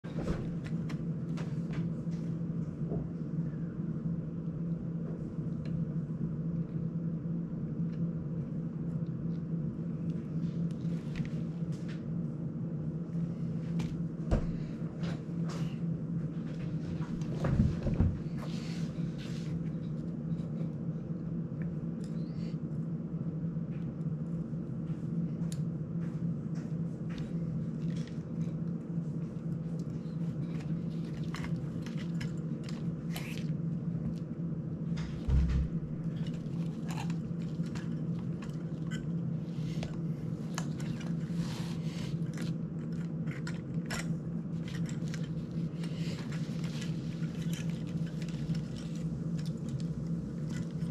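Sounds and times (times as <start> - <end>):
steady background hum: 0.0 - 50.9.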